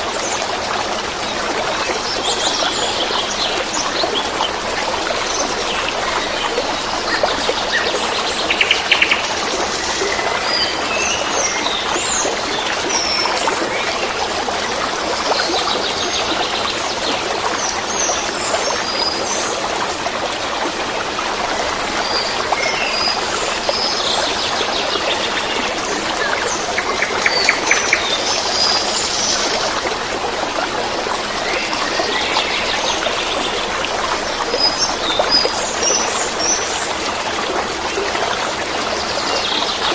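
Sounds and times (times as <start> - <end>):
water babbling and trickling: 0.0 - 39.9.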